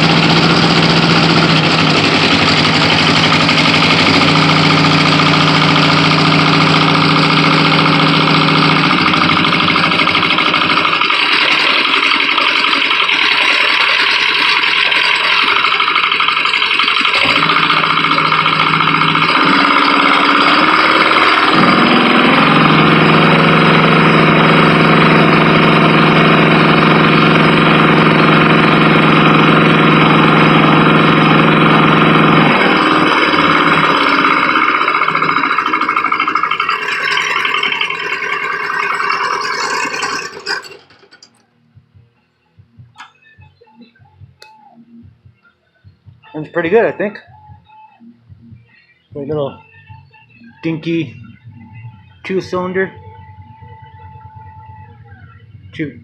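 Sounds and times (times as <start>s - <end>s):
tractor diesel engine running: 0.0s - 47.2s, 49.2s - 56.0s.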